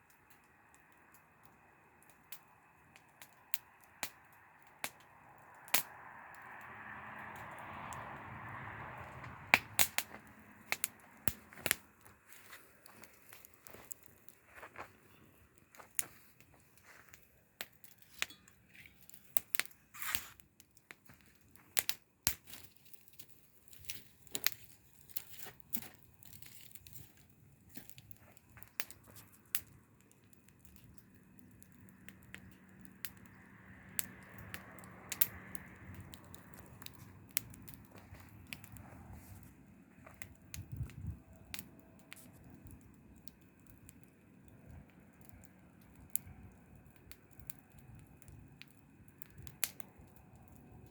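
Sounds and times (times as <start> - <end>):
bonfire crackling: 0.0 - 50.9.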